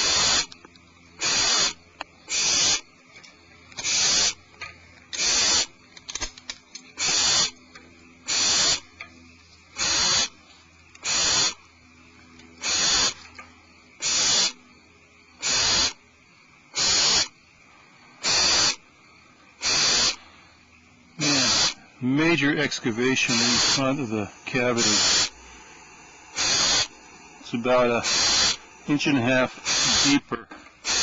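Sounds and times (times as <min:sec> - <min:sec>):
barn owl rasping hiss: 0:00.0 - 0:03.1, 0:03.7 - 0:31.0.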